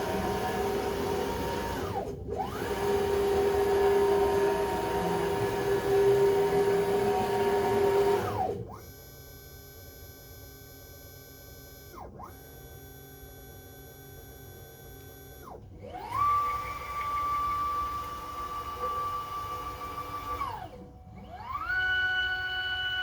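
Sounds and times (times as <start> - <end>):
cnc router motors whining: 0.0 - 10.1, 11.4 - 23.0.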